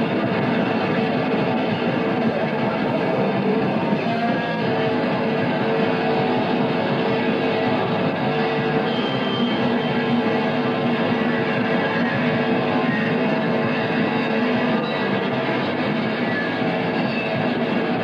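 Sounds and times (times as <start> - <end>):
electric guitar rock music: 0.0 - 18.0.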